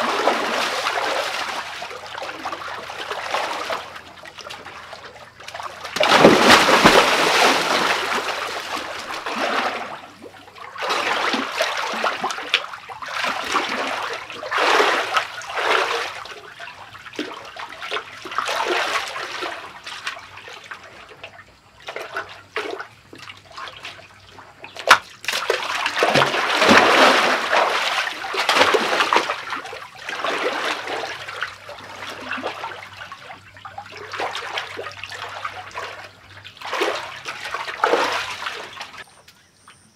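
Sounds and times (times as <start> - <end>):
water splashing in a pool: 0.0 - 39.1.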